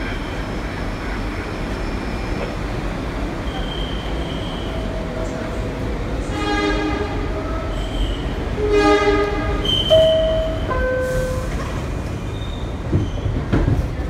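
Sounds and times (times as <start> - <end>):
subway wheels rumbling on rail: 0.0 - 14.0.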